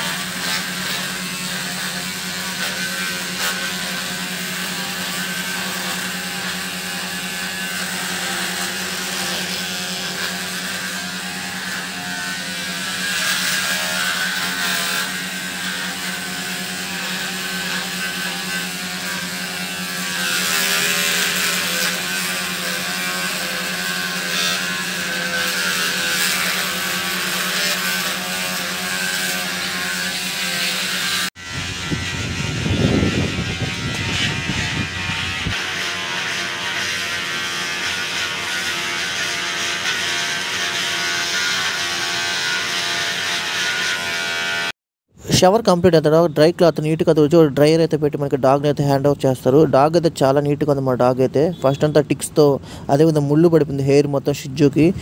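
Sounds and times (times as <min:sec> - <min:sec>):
electric hair clipper buzzing: 0:00.0 - 0:44.8.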